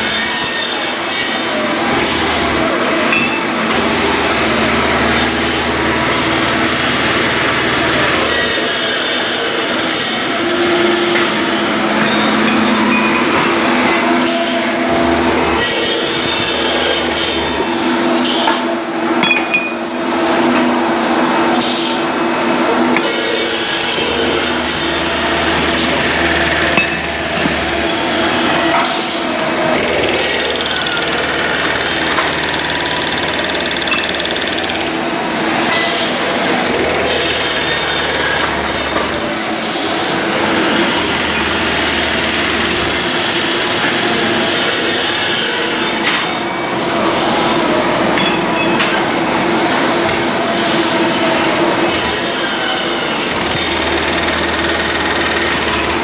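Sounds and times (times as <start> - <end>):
deep machinery drone: 0.0 - 56.0
factory machinery hum: 0.0 - 56.0.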